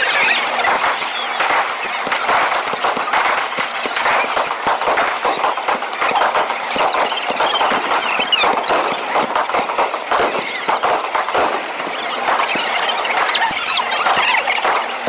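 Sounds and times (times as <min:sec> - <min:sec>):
firework whistles: 0:00.0 - 0:15.0
fireworks crackling: 0:00.0 - 0:15.0.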